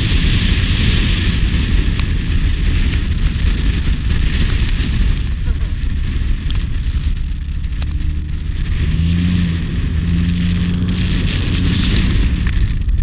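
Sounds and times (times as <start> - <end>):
car engine hum: 0.0 - 13.0
wind rumble on microphone: 0.0 - 13.0.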